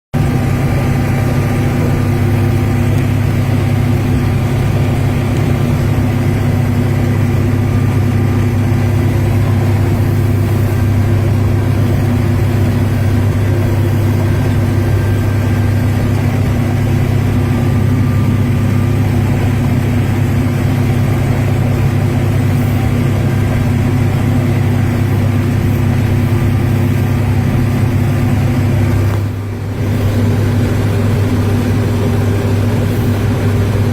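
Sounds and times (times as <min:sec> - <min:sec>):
motor running with low hum: 0:00.2 - 0:33.9.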